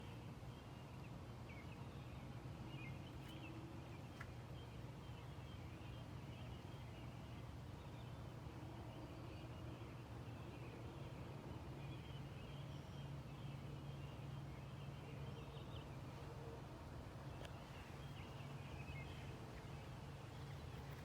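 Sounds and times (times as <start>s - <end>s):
robins singing: 0.0s - 21.0s.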